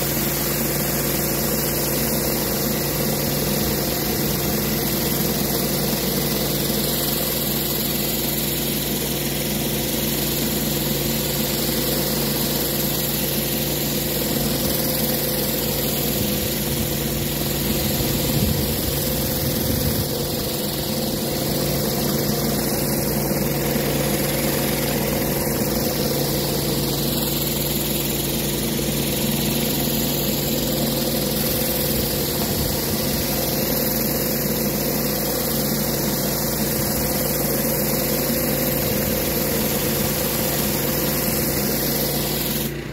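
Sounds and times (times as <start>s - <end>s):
high-pressure water hissing: 0.0s - 42.9s
pressure washer engine drone: 0.0s - 42.9s.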